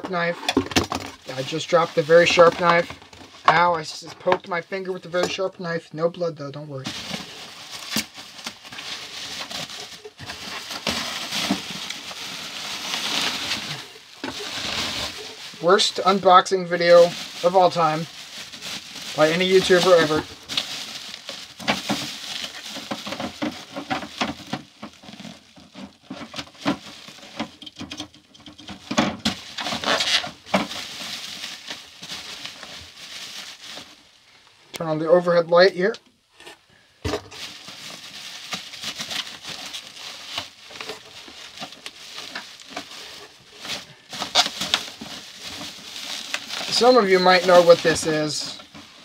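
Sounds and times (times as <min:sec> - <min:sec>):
bubble wrap crinkling: 0:00.1 - 0:03.7, 0:06.8 - 0:34.6, 0:37.3 - 0:49.0.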